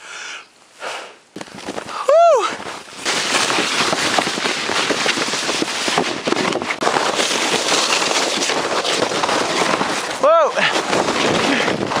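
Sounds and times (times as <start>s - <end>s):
sled scraping over crusty snow: 1.4s - 12.0s.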